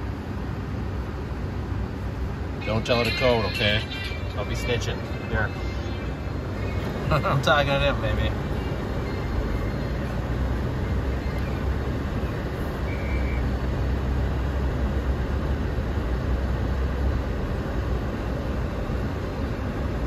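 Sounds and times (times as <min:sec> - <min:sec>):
low rumble inside vehicle cab: 0:00.0 - 0:20.0.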